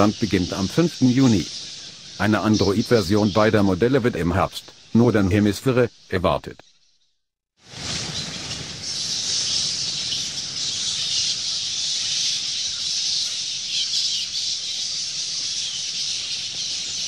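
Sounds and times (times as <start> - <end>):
bats squeaking and chittering: 0.0 - 7.1, 7.7 - 17.0.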